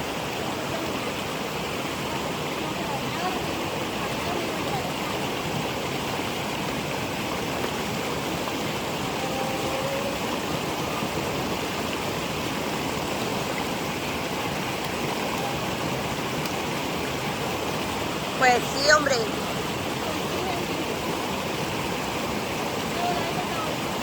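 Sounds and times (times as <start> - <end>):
waterfall and stream rushing: 0.0 - 24.0.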